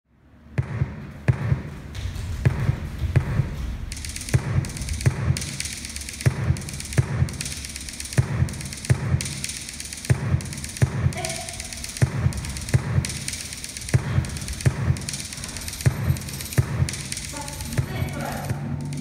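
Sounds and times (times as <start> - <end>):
deep thumping beat: 0.5 - 19.0.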